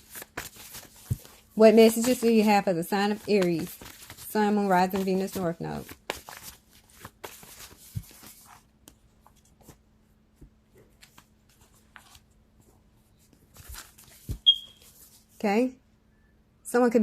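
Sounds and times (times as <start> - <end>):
cards shuffling and rustling: 0.0 - 9.8, 10.4 - 12.4, 13.1 - 15.3.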